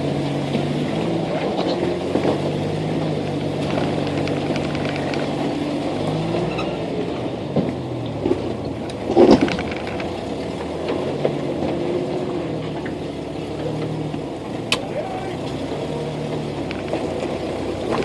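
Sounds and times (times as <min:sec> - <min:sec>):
engine running at low revs: 0:00.0 - 0:18.0.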